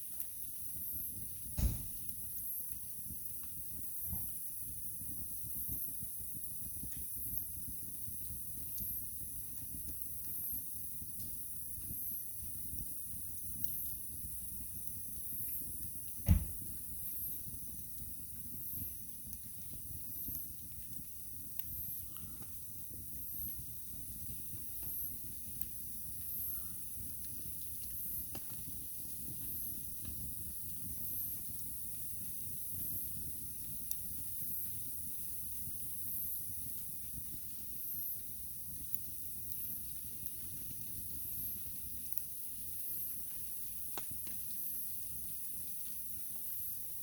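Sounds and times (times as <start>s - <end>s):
wood fire crackling: 0.0s - 47.0s
low rush of flames: 0.3s - 47.0s.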